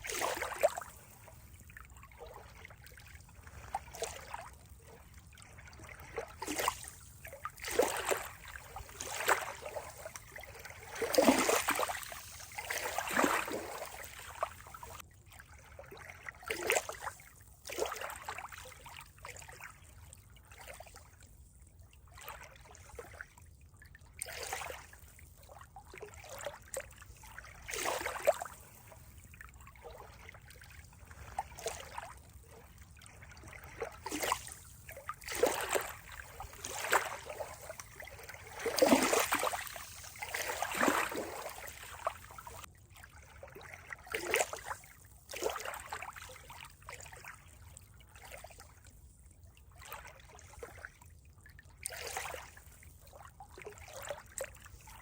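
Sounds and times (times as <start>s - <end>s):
water trickling and lapping: 0.0s - 55.0s.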